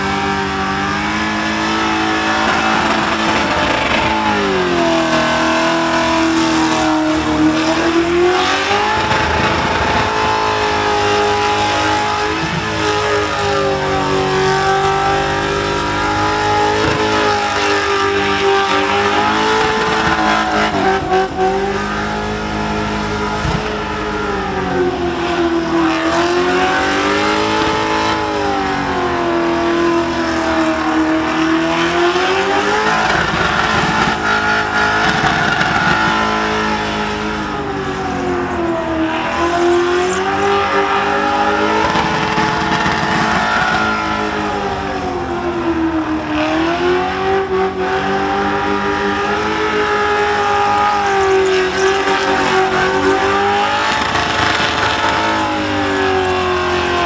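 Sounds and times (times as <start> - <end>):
car engine revving high: 0.0 - 57.0.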